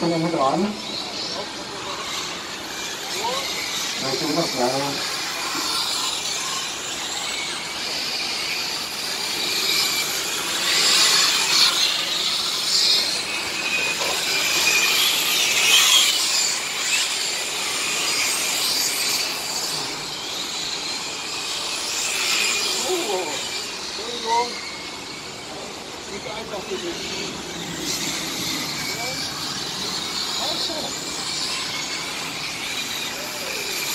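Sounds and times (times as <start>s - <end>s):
model trucks high-pitched whine: 0.0s - 33.9s.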